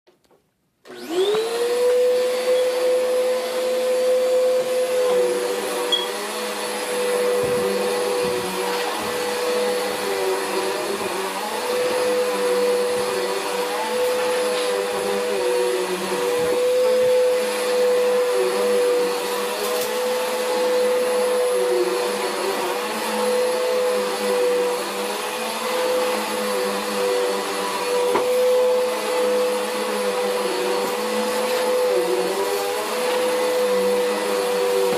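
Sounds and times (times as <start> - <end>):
vacuum cleaner motor whining: 0.8 - 34.9.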